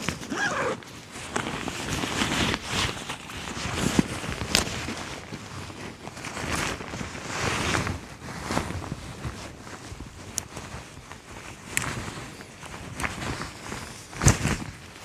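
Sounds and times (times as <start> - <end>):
clothing rustling: 0.0 - 15.0.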